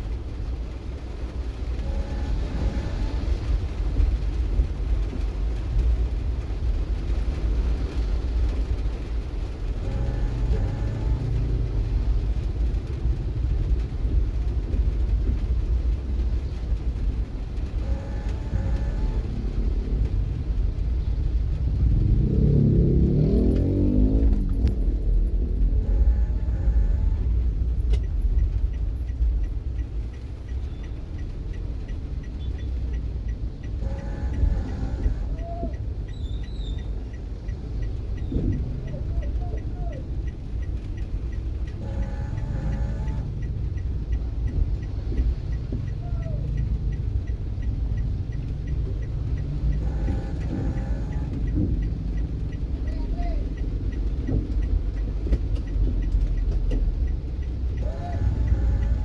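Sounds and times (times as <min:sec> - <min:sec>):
car road and engine rumble: 0:00.0 - 0:59.0
faint regular ticking: 0:00.0 - 0:59.0.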